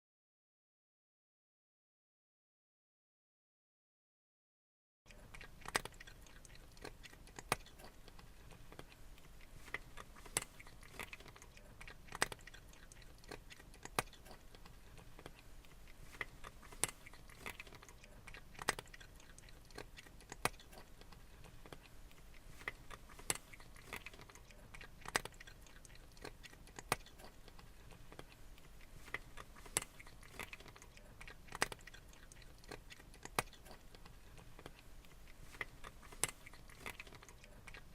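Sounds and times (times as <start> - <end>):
cat crunching food: 5.1 - 37.9.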